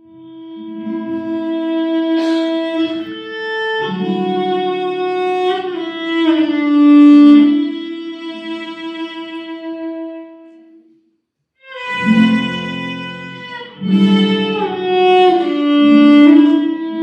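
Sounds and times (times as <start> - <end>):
slow violin melody: 0.0 - 10.8, 11.6 - 17.0.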